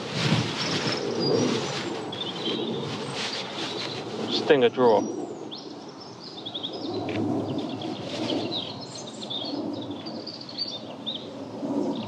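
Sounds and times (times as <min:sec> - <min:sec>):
wind rushing on microphone: 0:00.0 - 0:12.0
small birds chirping: 0:00.5 - 0:12.0.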